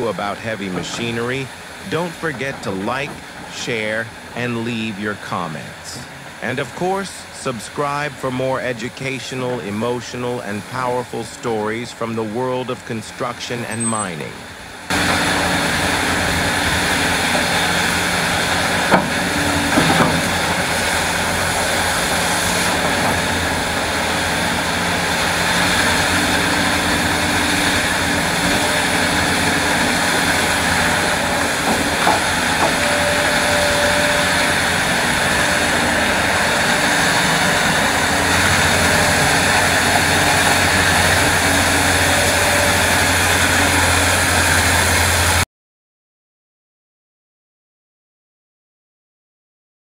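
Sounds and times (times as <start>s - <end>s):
excavator diesel engine: 0.0s - 45.4s.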